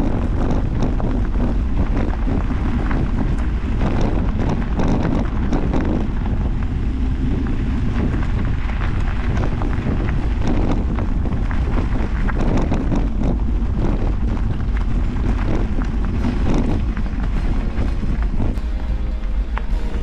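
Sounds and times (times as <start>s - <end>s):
bike clicks and rattles: 0.0s - 18.7s
tyres rolling on gravel: 0.0s - 20.0s
wind on microphone: 0.0s - 20.0s.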